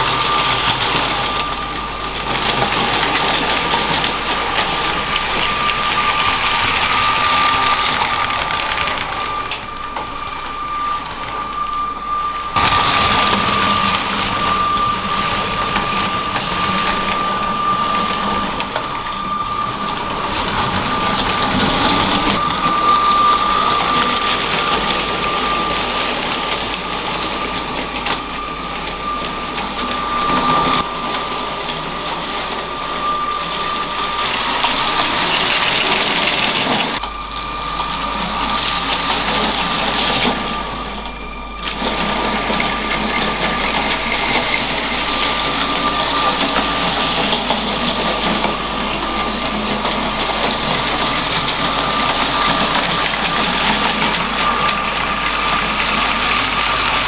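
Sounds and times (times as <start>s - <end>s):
toy train motor whine: 0.0s - 57.0s
wheels rattling on track: 0.0s - 57.0s.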